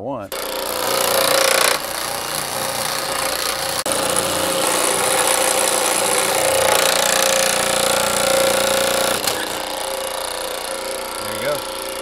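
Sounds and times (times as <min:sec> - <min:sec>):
power hammer hammering sheet metal: 0:00.3 - 0:12.0.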